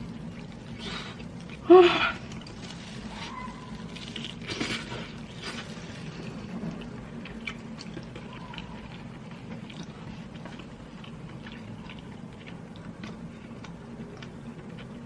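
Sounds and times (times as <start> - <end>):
person chewing: 0.0 - 15.0
steady low hum: 0.0 - 15.0.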